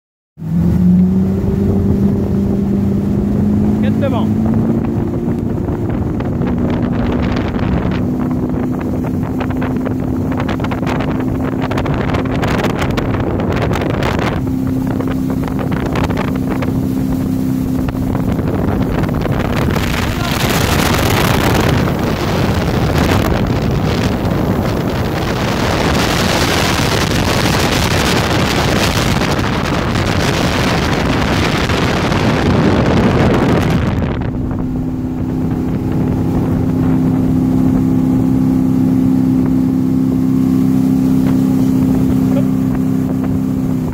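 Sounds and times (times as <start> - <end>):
motorboat engine hum: 0.4 - 43.9
wind and water rushing: 0.4 - 43.9.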